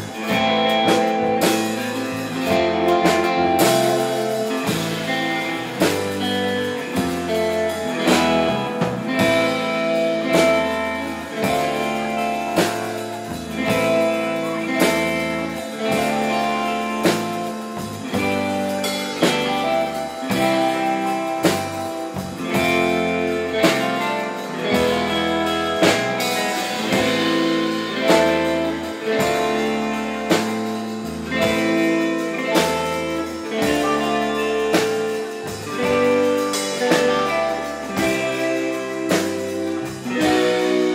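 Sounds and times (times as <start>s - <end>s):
drums keeping steady beat: 0.0s - 40.9s
electric bass guitar: 0.0s - 40.9s
electric guitar melody: 0.0s - 40.9s.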